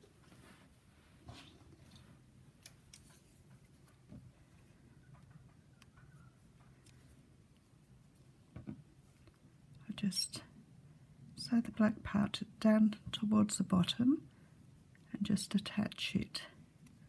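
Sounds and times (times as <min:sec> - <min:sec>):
faint ticks and rustles of handling: 0:00.0 - 0:17.0.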